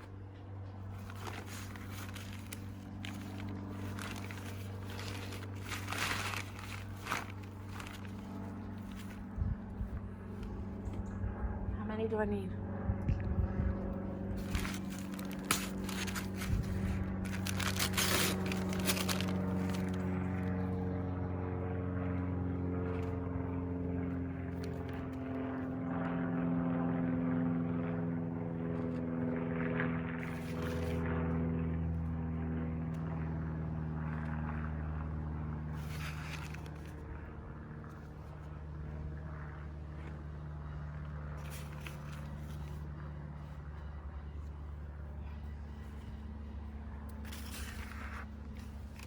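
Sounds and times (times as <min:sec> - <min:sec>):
engine drone: 0:00.0 - 0:49.0.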